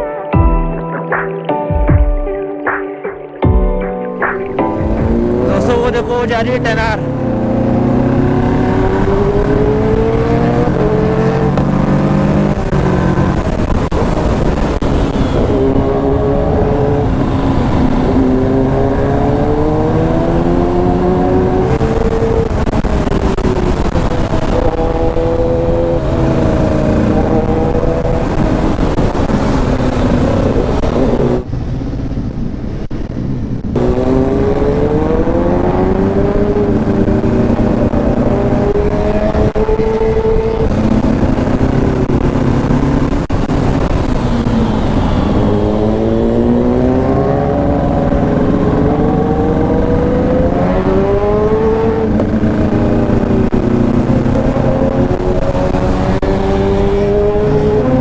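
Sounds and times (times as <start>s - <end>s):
motorcycle engine accelerating: 3.4s - 58.0s.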